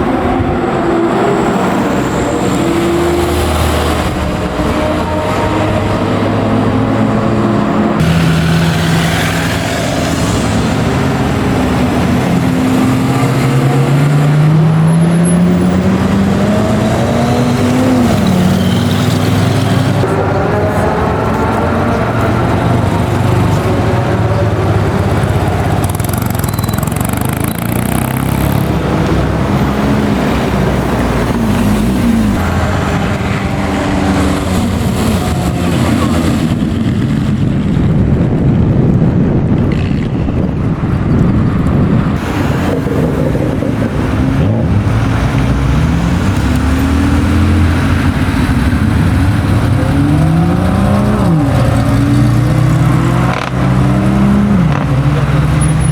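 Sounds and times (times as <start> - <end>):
car engines revving past: 0.0 - 38.4, 39.5 - 55.9.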